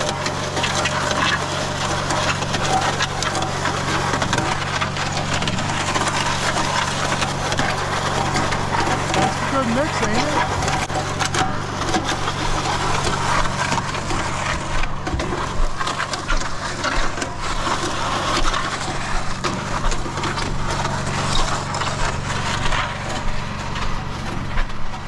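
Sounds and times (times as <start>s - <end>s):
concrete tumbling in drum: 0.0s - 25.0s
mixer motor hum: 0.0s - 25.0s.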